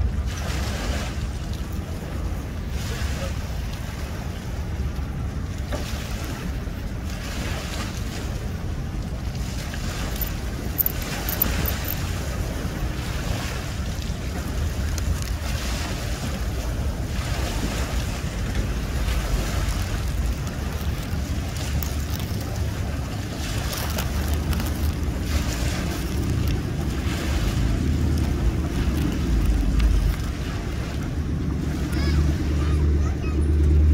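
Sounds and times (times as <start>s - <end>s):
small waves splashing on concrete: 0.0s - 33.9s.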